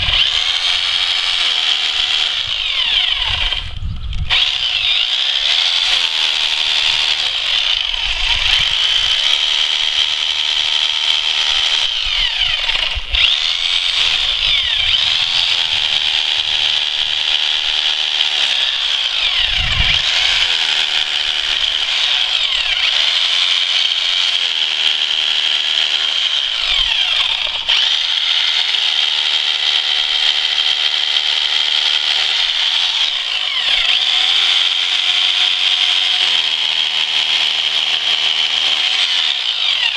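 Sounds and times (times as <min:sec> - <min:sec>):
hammer drill boring into stone: 0:00.0 - 0:39.9.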